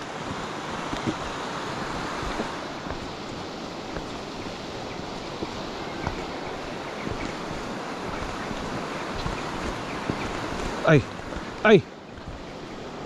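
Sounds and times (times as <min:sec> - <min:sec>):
fast-flowing stream rushing: 0:00.0 - 0:13.0.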